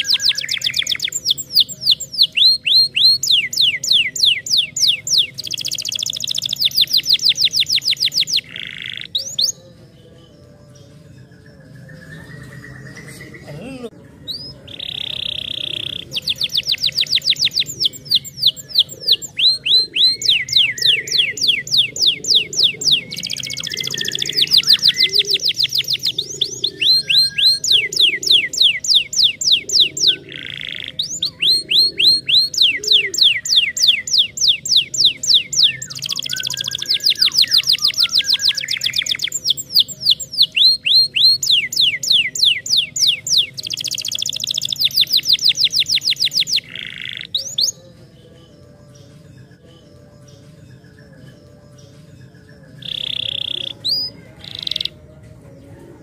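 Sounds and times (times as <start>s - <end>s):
canary singing rapid trills: 0.0s - 9.7s, 11.9s - 48.0s, 52.8s - 55.0s.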